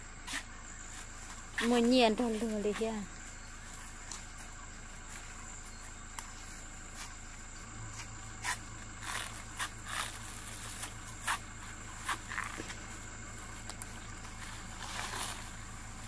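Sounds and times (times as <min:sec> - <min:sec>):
high insect buzz: 0:00.0 - 0:16.0.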